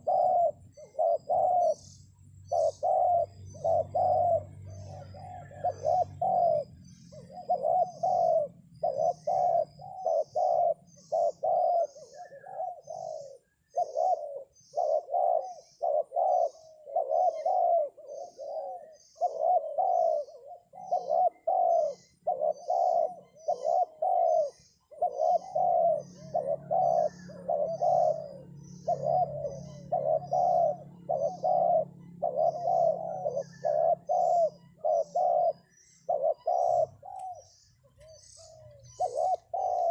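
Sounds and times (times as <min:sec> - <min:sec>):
doves cooing: 0:00.0 - 0:39.9
faint high chirp: 0:00.0 - 0:39.9.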